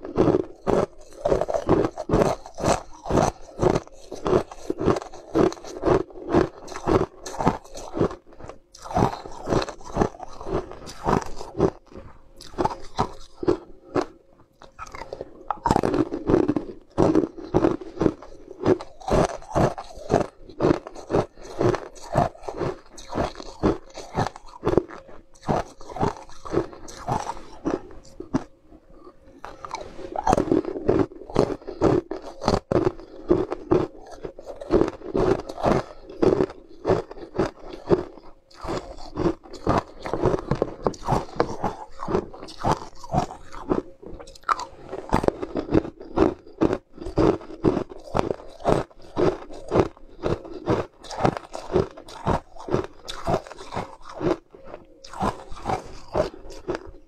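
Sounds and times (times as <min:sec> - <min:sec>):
crunching and chewing ice: 0:00.0 - 0:57.0.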